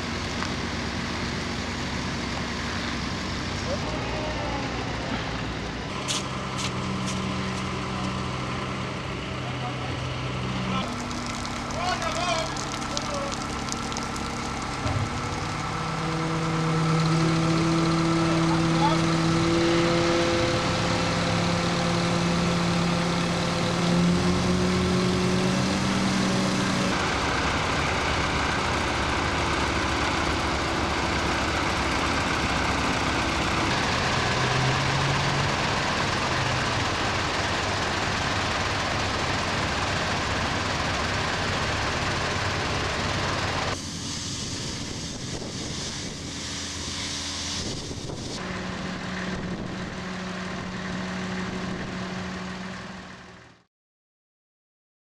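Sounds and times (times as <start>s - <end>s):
heavy vehicle engines running: 0.0s - 53.7s.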